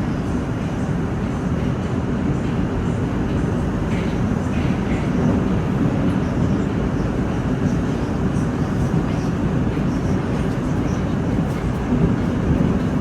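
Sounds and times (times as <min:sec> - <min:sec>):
subway train running: 0:00.0 - 0:13.0.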